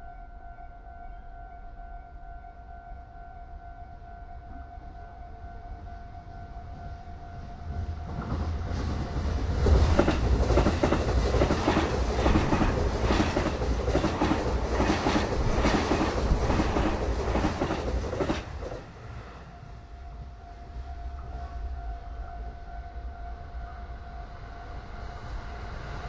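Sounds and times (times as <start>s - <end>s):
train rumble and wheel clatter: 4.4s - 26.0s.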